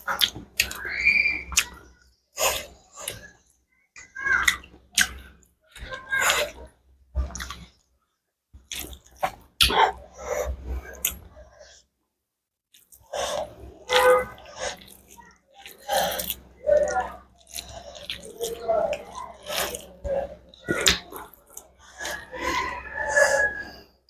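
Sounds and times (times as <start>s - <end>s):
close chewing and mouth sounds: 0.0s - 7.9s, 8.6s - 11.8s, 12.7s - 24.0s.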